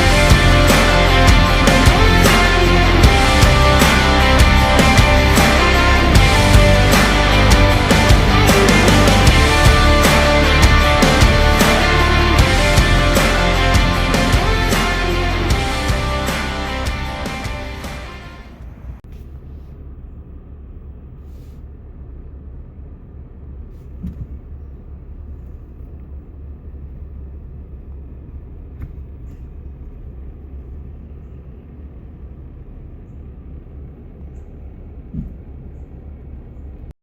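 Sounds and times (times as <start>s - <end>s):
truck engine and road noise: 0.0s - 36.9s.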